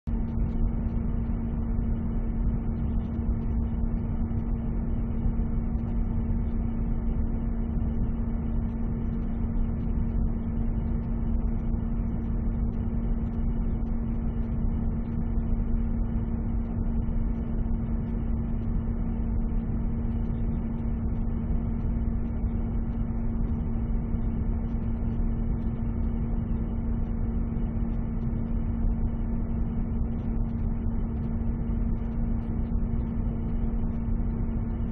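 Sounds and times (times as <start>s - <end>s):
low machine drone: 0.1s - 34.9s.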